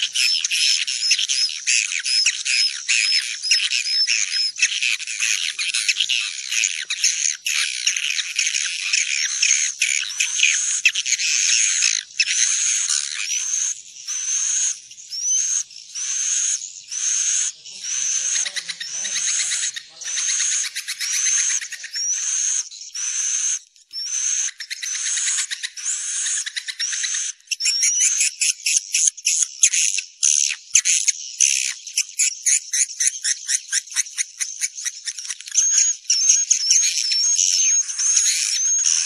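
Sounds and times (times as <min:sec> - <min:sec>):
swiftlet twittering chirps: 0:00.0 - 0:28.6, 0:31.5 - 0:39.0.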